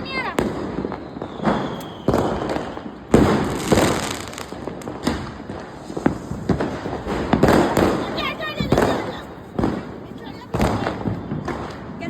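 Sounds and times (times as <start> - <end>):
firecrackers banging: 0.0 - 12.0
firework crackling and hiss: 0.0 - 12.0.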